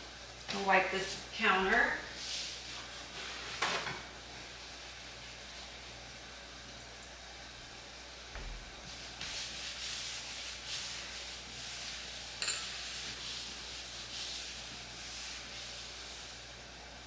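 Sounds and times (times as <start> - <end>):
cloth wiping a counter: 0.5 - 6.0, 8.4 - 17.0.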